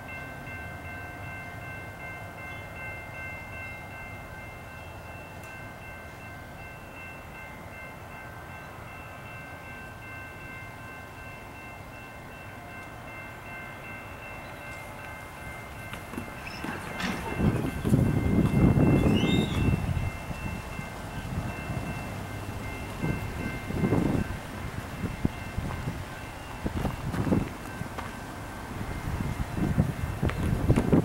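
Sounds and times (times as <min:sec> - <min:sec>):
distant diesel locomotive rumble: 0:00.0 - 0:31.0.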